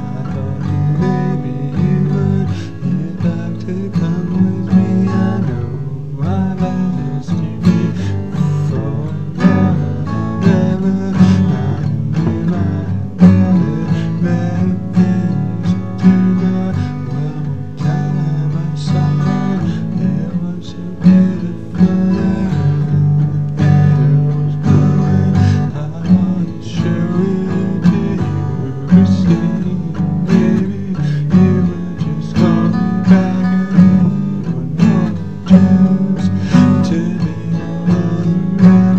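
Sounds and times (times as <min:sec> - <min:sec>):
acoustic guitars playing blues: 0:00.0 - 0:38.9.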